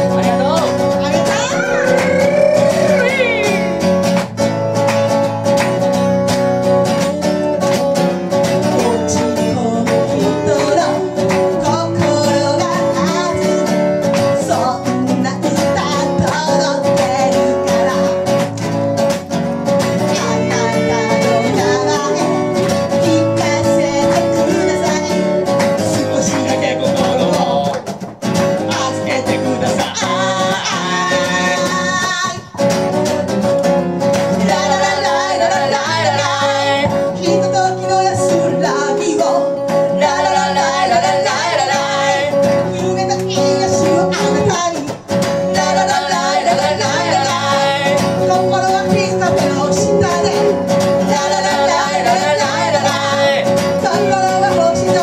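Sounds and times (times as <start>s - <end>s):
blues-rock guitar: 0.0s - 55.0s
woman singing: 1.0s - 3.8s, 8.6s - 18.4s, 20.0s - 27.7s, 28.6s - 32.6s, 34.3s - 55.0s.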